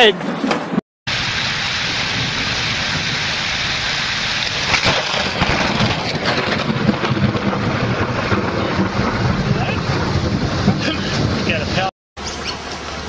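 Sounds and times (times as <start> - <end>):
heavy rain pouring: 1.1 - 11.9
low thunder rumble: 1.1 - 11.9.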